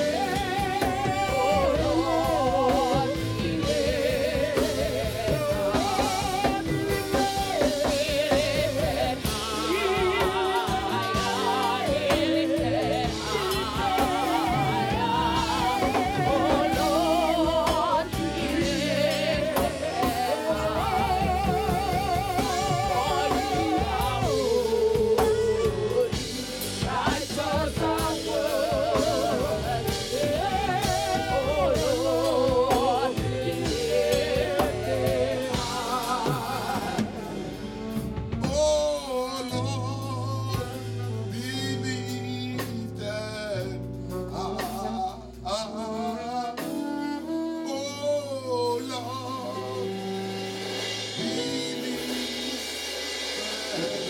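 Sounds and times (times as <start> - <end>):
person singing with vibrato: 0.0 - 52.1, 53.3 - 54.0
band with drums: 0.0 - 54.0.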